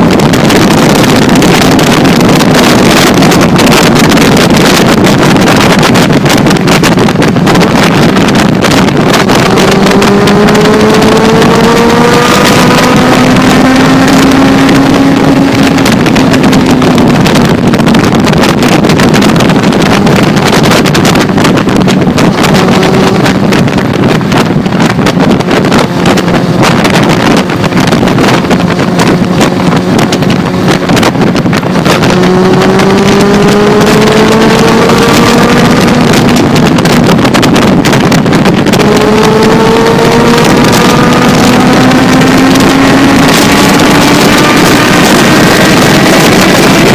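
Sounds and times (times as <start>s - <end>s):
motorcycle engine: 0.0s - 46.9s
wind noise on microphone: 0.0s - 46.9s.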